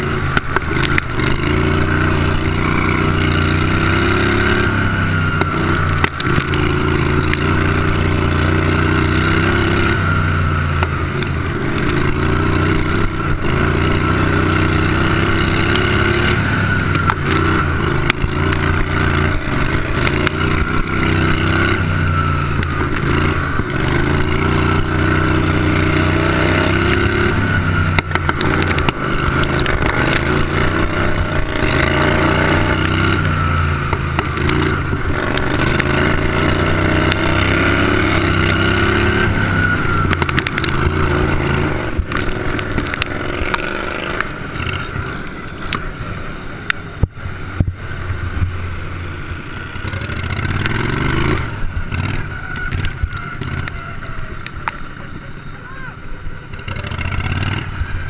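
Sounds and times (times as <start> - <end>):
lawn tractor engine revving: 0.0 - 58.0.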